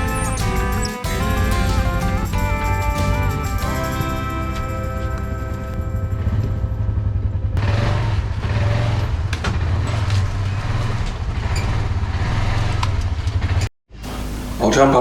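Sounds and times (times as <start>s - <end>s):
vehicle engine rumble: 0.0s - 12.2s
road or wind noise: 0.0s - 14.6s.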